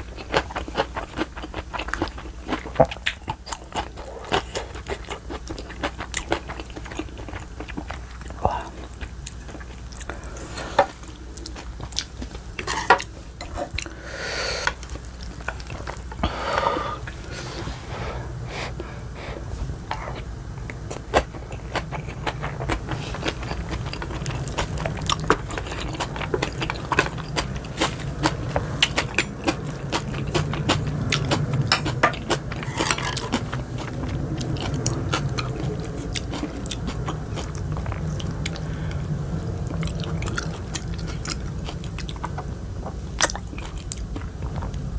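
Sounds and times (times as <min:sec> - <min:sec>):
person chewing soft wet food: 0:00.0 - 0:17.4, 0:18.1 - 0:44.9.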